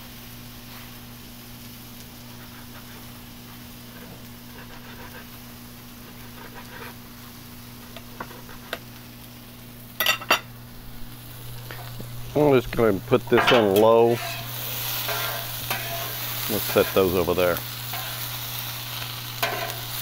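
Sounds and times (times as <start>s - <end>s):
steady low hum: 0.0s - 20.0s
vegetables sizzling on griddle: 0.0s - 20.0s.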